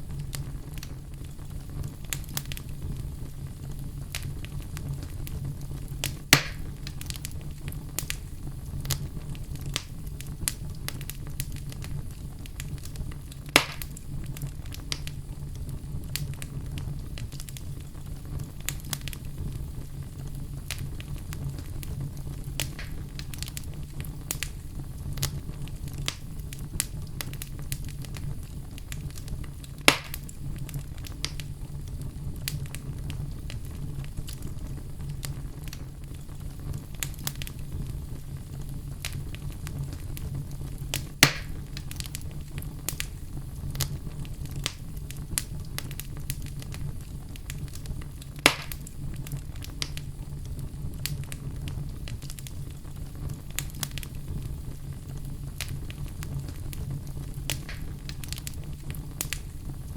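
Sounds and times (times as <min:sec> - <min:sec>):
loud fire pops: 0:00.0 - 0:59.9
low fire rumble: 0:00.0 - 0:59.9
wood fire crackling: 0:00.0 - 0:59.9.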